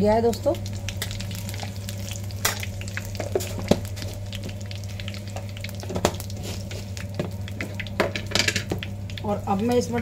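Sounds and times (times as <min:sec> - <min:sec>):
seeds sizzling in hot oil: 0:00.0 - 0:10.0.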